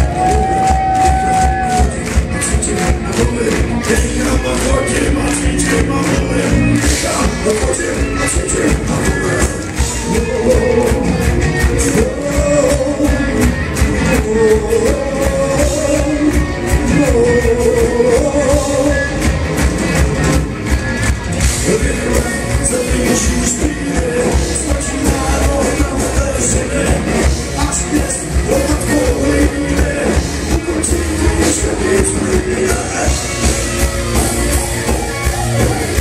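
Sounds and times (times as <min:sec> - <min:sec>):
person singing: 0:00.0 - 0:19.5, 0:21.4 - 0:36.0
electric guitars: 0:00.0 - 0:36.0
live metal band playing: 0:00.0 - 0:36.0.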